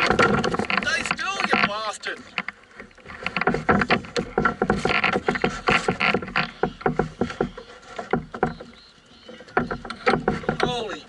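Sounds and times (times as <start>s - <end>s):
fish thudding against canoe hull: 0.0s - 11.0s
water splashing: 0.0s - 11.0s.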